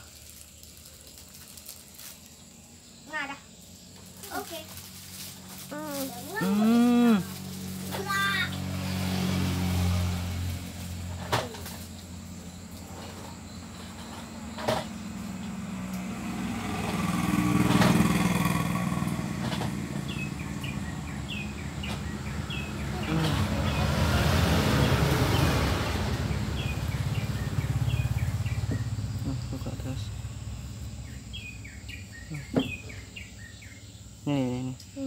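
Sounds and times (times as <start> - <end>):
passing motor vehicles rumbling: 4.4 - 34.2.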